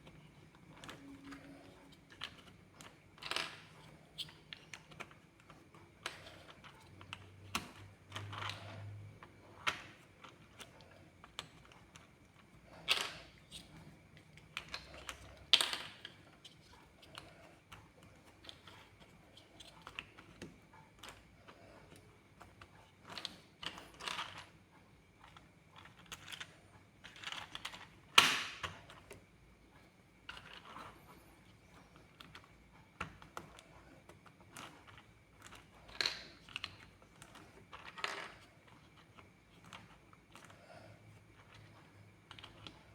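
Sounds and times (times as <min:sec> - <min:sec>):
plastic building bricks clicking: 0:00.0 - 0:24.6, 0:25.2 - 0:29.2, 0:30.2 - 0:31.0, 0:31.9 - 0:40.6, 0:41.3 - 0:42.9.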